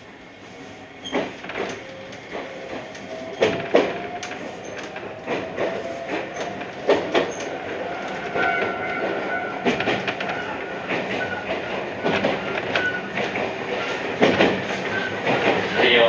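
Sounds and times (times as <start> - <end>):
train running noise with whine: 0.0 - 16.0
train wheels clacking over joints: 1.0 - 16.0.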